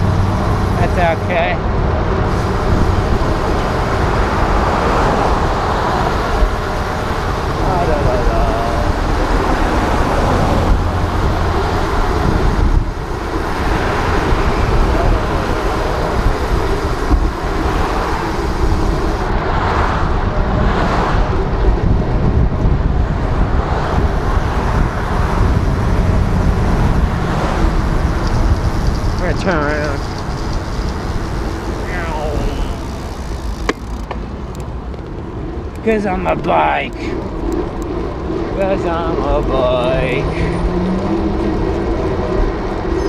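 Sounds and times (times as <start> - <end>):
car traffic passing: 0.0 - 43.0
wind buffeting microphone: 0.0 - 43.0.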